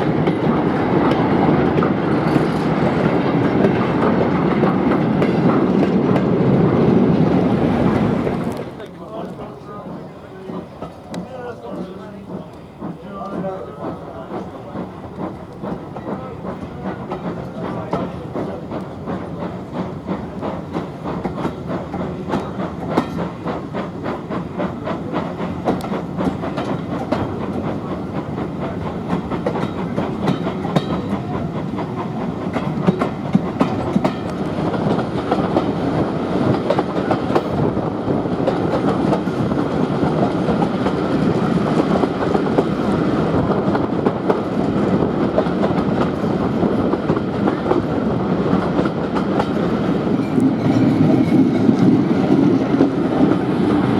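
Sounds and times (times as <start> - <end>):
train wheels clicking on rails: 0.0 - 53.9.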